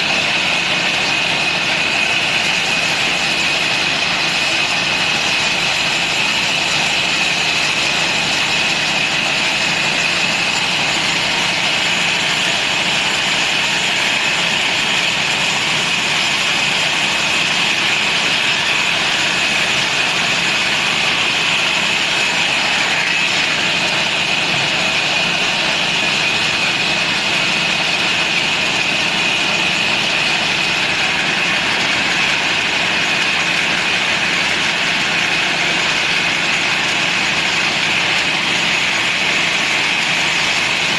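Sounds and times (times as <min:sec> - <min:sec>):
high machine whine: 0:00.0 - 0:40.9
sawmill machinery running: 0:00.0 - 0:40.9.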